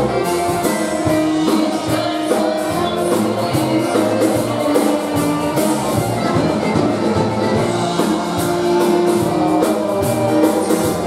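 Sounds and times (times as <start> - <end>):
accordion: 0.0 - 11.0
drum kit beat: 0.0 - 11.0
saxophone: 0.0 - 11.0.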